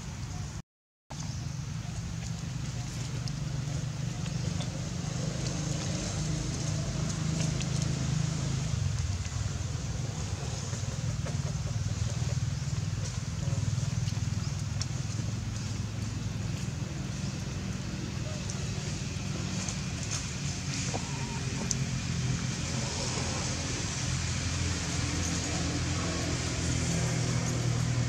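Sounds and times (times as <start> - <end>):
engine running: 1.2 - 28.0.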